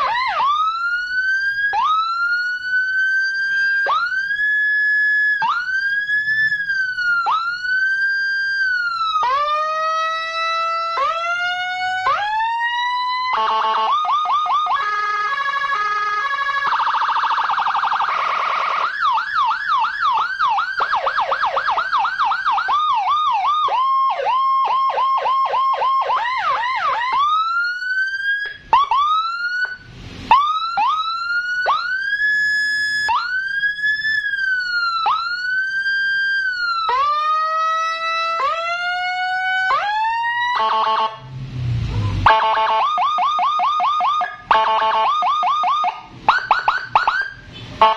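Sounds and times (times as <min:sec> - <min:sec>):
electronic police siren: 0:00.0 - 0:47.9.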